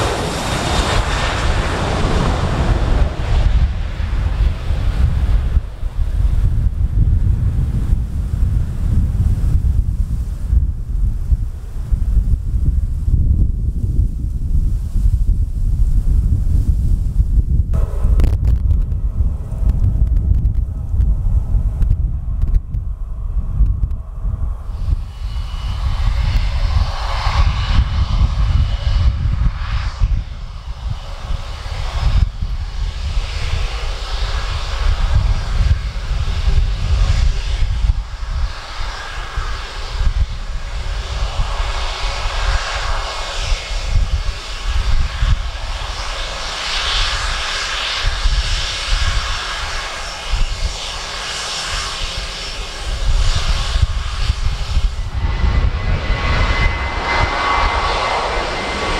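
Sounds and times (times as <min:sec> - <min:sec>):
jet engines whining: 0:00.0 - 0:07.0, 0:17.8 - 0:58.9.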